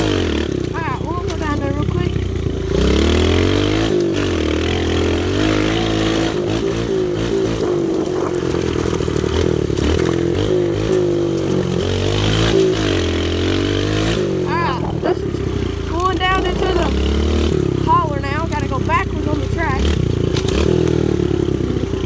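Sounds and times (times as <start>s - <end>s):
small motorbike engine revving: 0.0s - 22.0s.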